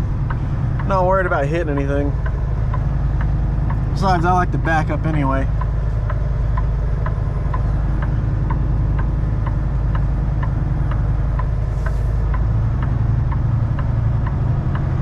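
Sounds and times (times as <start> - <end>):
steady ticking: 0.0 - 15.0
truck diesel engine idling: 0.0 - 15.0.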